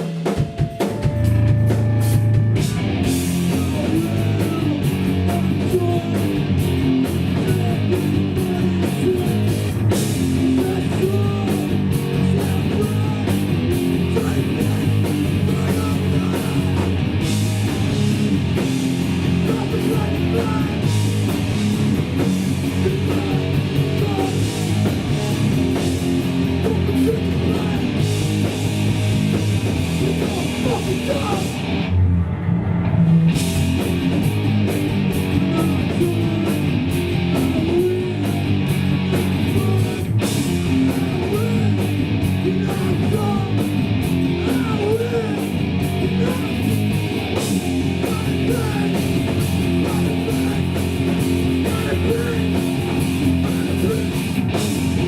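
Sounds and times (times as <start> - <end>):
drum and cymbal hits: 0.0 - 31.8, 33.0 - 55.0
punk band playing: 0.0 - 55.0.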